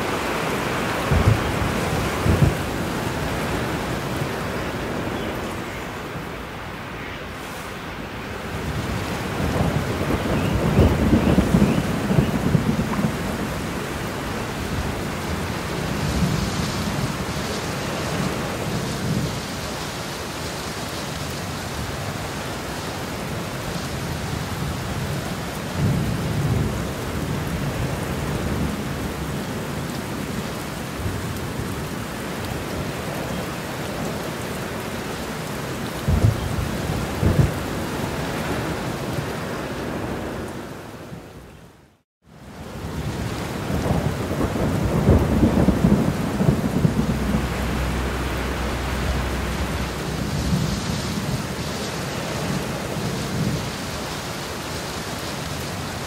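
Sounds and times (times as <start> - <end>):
thunder rumbling: 0.0 - 6.7, 7.9 - 19.6, 23.4 - 41.3, 42.6 - 54.0
heavy rain falling: 0.0 - 56.0.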